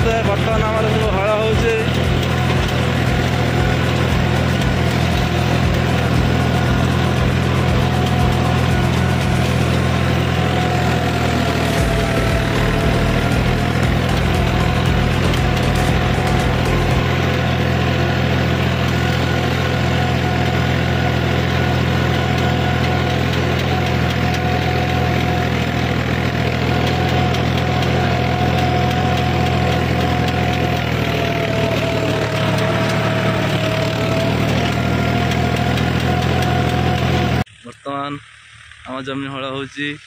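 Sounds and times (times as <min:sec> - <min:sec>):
steady whine: 0:00.0 - 0:40.0
tractor diesel engine running: 0:00.0 - 0:40.0.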